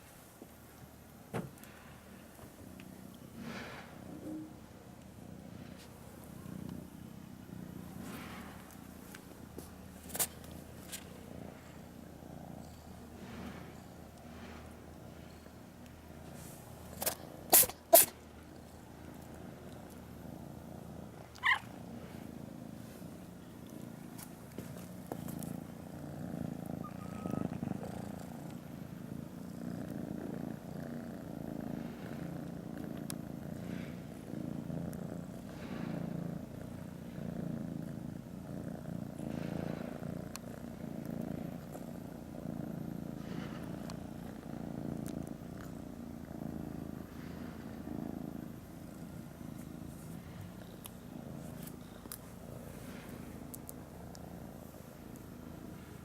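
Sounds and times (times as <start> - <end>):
cat purring: 1.6 - 56.0.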